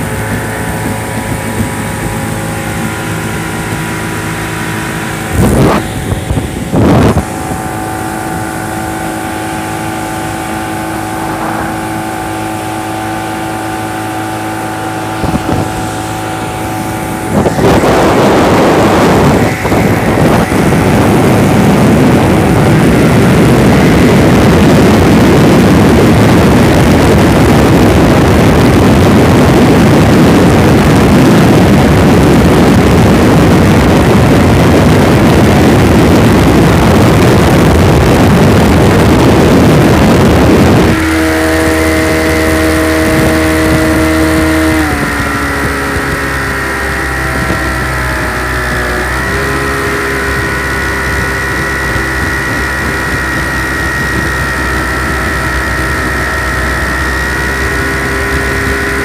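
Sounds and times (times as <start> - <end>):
outboard engine: 0.0 - 59.0
rush of wind and water: 0.0 - 59.0.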